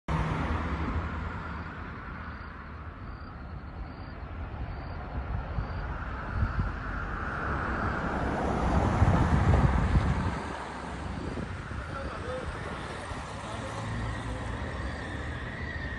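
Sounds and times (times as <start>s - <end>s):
vehicle engine rumble: 0.1s - 15.9s.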